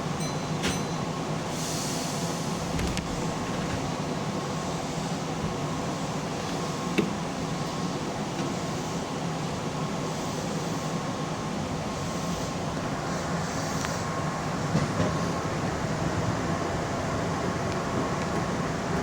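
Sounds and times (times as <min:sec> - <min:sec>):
train interior hum and rumble: 0:00.0 - 0:19.0.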